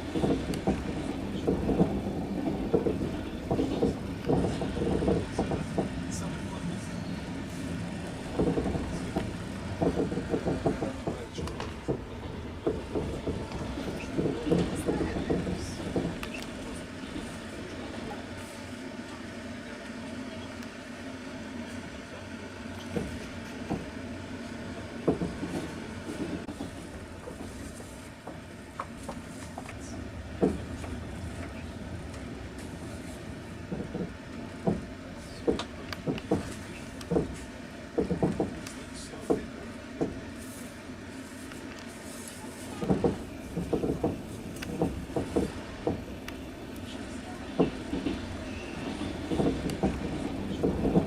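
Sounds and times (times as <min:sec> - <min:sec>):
wheels clacking over rail joints: 0:00.0 - 0:18.2, 0:22.7 - 0:40.5, 0:41.4 - 0:51.0
train rumbling on rails: 0:00.0 - 0:51.0.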